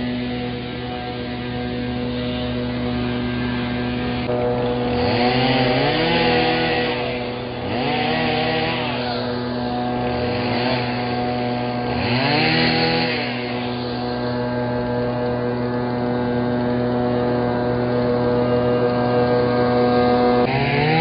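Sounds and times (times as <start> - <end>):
trimmer engine revving: 0.0 - 21.0.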